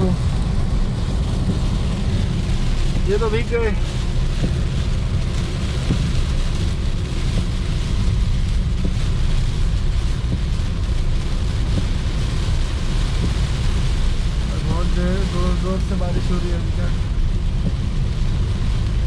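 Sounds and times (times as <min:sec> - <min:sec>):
heavy rain on a car: 0:00.0 - 0:19.0
tyres and engine rumble: 0:00.0 - 0:19.0.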